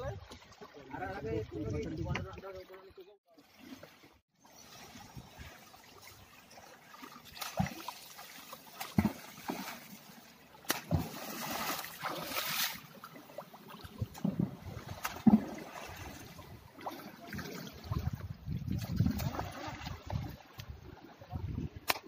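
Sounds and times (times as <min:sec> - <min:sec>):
water splashing and sloshing: 0:00.0 - 0:22.0.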